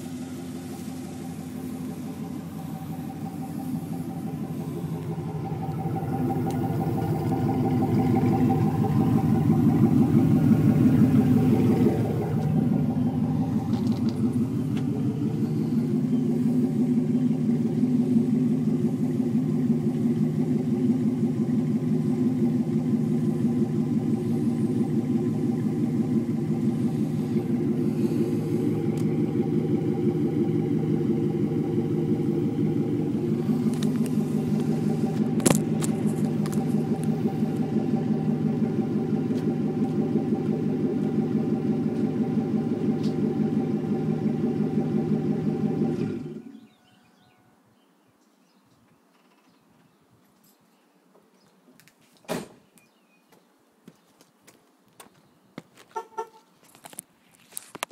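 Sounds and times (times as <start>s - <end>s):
car exhaust idling rumble: 0.0s - 46.8s.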